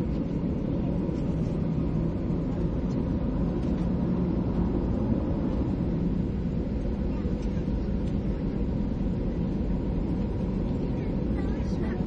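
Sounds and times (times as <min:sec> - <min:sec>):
faint constant hum: 0:00.0 - 0:12.0
jet engine rumble in cabin: 0:00.0 - 0:12.0.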